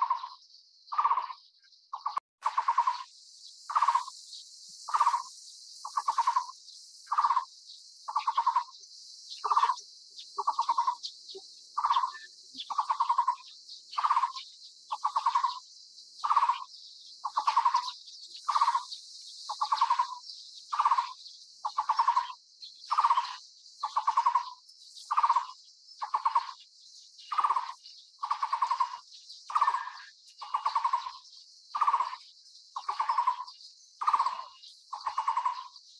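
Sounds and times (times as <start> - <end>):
bird calling with trilled note: 0.0 - 3.1, 4.9 - 7.5, 8.1 - 8.7, 9.4 - 9.8, 10.4 - 11.1, 11.8 - 15.6, 16.2 - 18.9, 19.5 - 26.6, 27.3 - 35.8.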